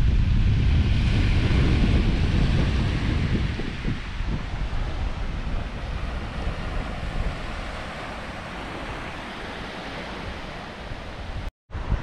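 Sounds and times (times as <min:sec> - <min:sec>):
wind buffeting microphone: 0:00.0 - 0:12.0
small waves washing onto sand: 0:01.0 - 0:11.9.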